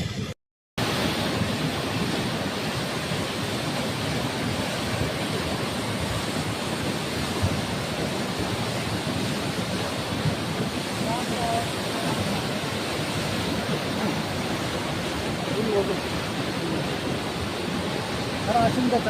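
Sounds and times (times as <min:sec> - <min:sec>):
rushing floodwater: 0:00.8 - 0:19.0.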